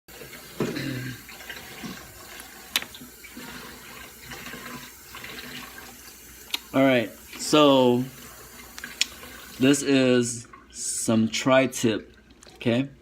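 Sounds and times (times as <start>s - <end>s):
running water hissing: 0.1s - 11.2s.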